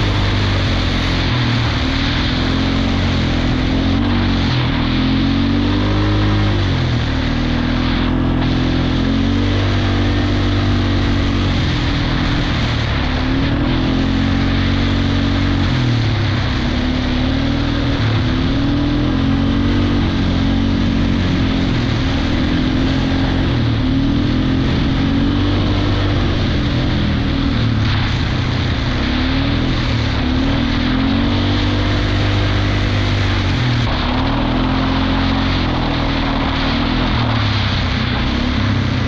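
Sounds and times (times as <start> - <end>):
atv engine revving: 0.0 - 39.0
steady rushing noise: 0.0 - 39.0.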